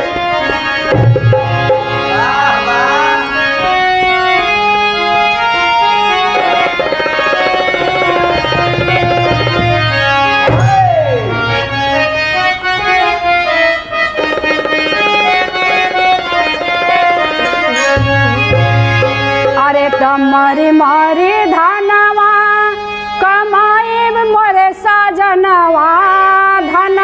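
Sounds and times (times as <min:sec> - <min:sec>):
reedy keyboard melody over drone: 0:00.0 - 0:24.8.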